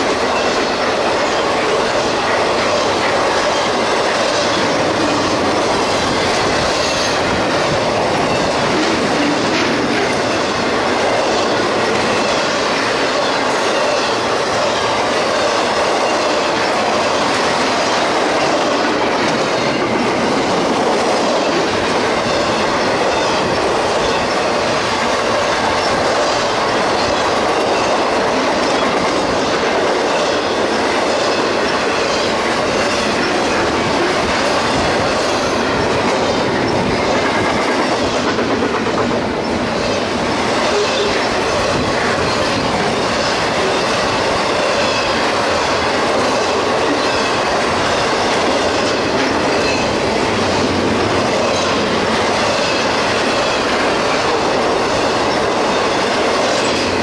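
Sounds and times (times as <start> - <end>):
steel wheels rushing on rail: 0.0 - 57.0.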